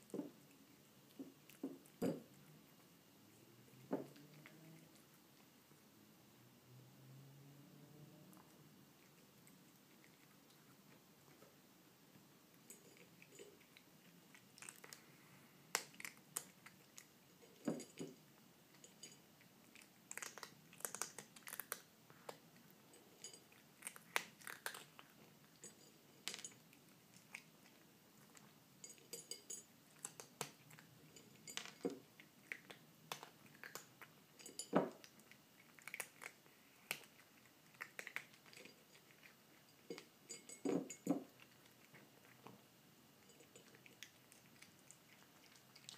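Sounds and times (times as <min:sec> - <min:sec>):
kitten crunching dry kibble: 0:03.7 - 0:05.8, 0:08.4 - 0:45.9.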